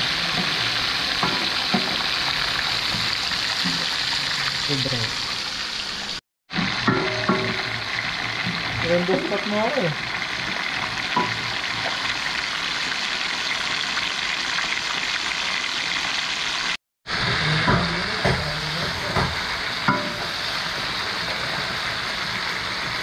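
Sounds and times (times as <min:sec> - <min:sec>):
fish frying in oil: 0:00.0 - 0:23.0.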